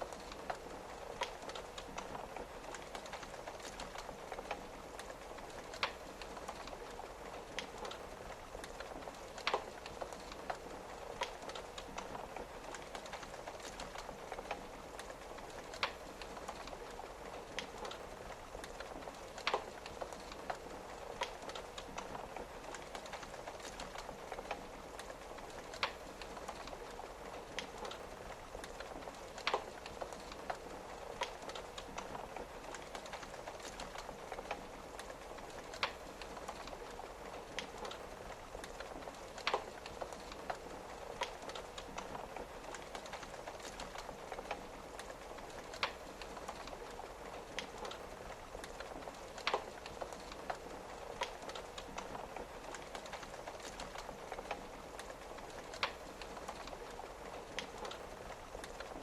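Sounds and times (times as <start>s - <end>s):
rain pattering on a window: 0.0s - 59.0s
wood fire crackling and popping: 0.0s - 59.0s.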